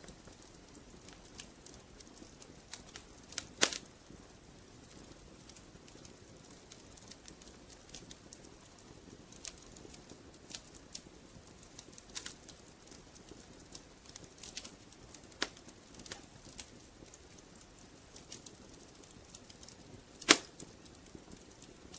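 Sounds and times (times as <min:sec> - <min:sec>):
fireplace fire crackling: 0:00.0 - 0:21.9.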